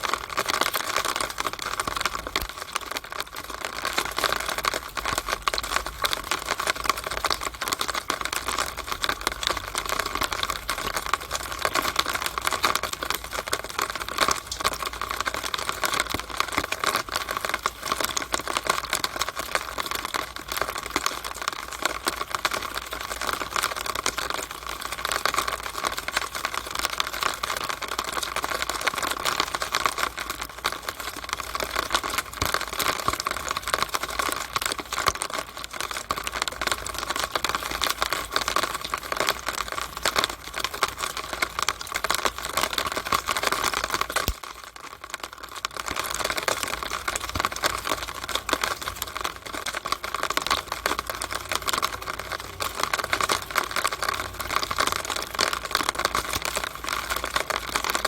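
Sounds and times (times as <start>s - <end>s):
rainwater running down downspout: 0.0s - 58.0s.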